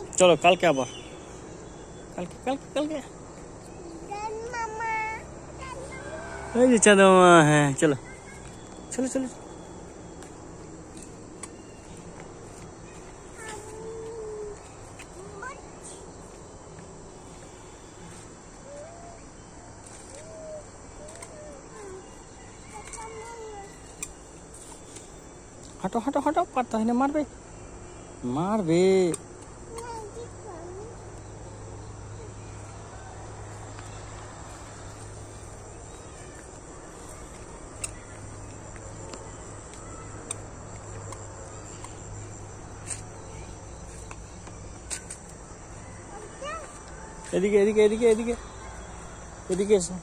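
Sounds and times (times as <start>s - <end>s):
crickets chirring: 0.0s - 50.0s.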